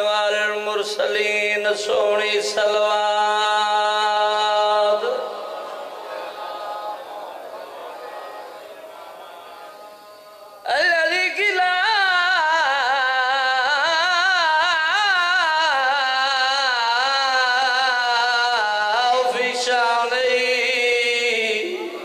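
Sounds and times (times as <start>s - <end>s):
man chanting into a microphone: 0.0s - 22.0s.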